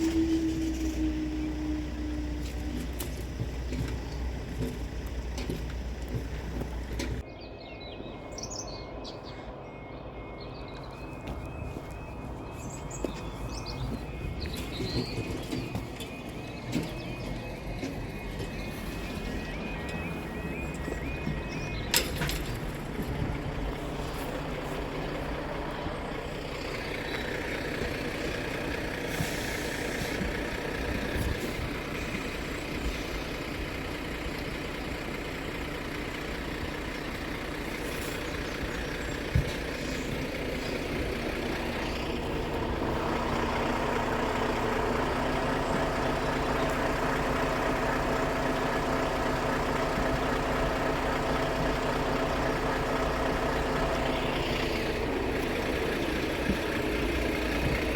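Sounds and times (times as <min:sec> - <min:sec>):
heavy vehicle engine idling: 0:00.0 - 0:57.9.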